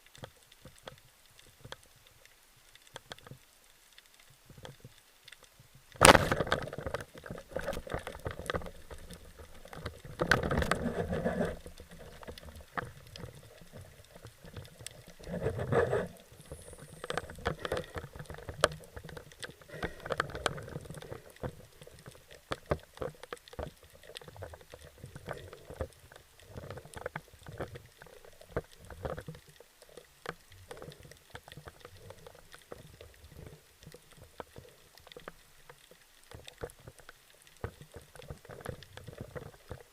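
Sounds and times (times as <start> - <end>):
small clicks: 0.0 - 39.9
water splashing and bubbling: 0.0 - 39.9.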